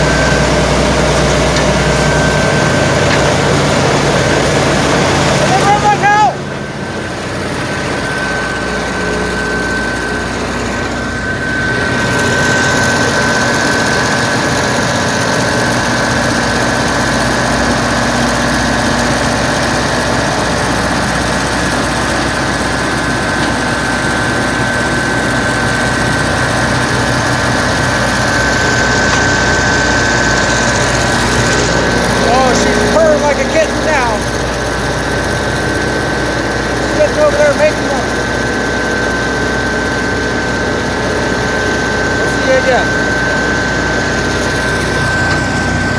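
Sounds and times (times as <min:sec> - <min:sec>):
high whine: 0:00.0 - 0:18.7, 0:20.4 - 0:45.9
engine running through exhaust: 0:00.0 - 0:45.9.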